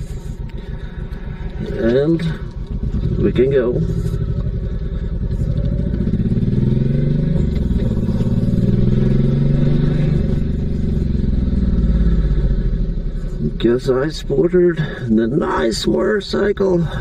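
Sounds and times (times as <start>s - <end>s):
motorcycle engine accelerating: 0.0s - 15.6s.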